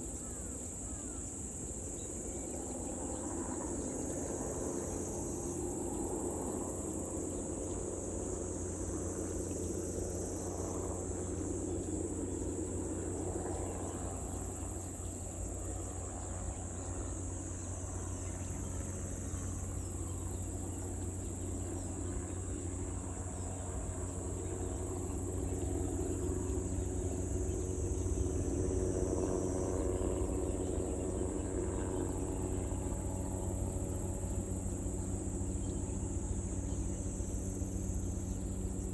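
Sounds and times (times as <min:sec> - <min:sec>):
helicopter engine and rotor drone: 0:00.0 - 0:38.9
insects chirring: 0:00.0 - 0:38.9.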